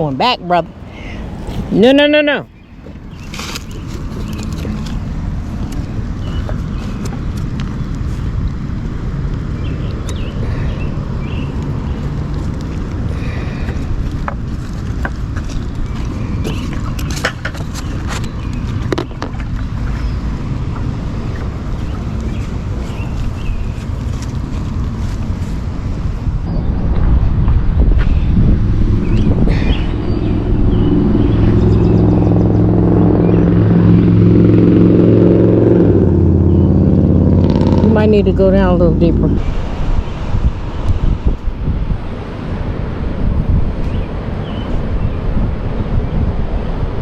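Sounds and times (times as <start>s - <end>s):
vehicle engine humming: 0.0s - 43.4s
wind buffeting microphone: 0.0s - 47.0s.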